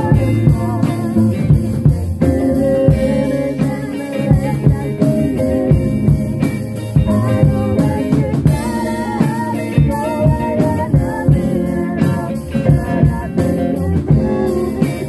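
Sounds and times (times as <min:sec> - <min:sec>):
drum kit beat: 0:00.0 - 0:15.0
electric guitar: 0:00.0 - 0:15.0
woman singing into microphone: 0:00.0 - 0:15.0.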